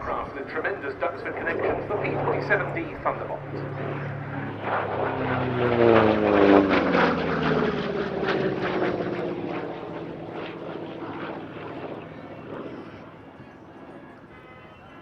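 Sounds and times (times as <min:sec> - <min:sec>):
radial aircraft engine passing: 0:00.0 - 0:15.0.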